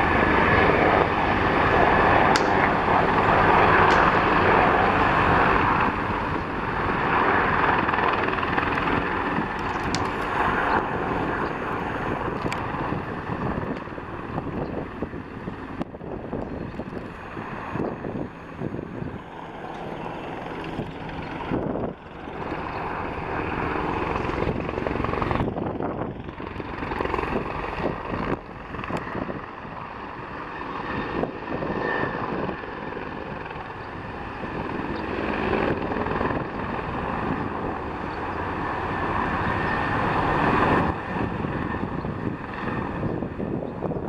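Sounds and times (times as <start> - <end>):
helicopter rotors and engines: 0.0 - 44.0.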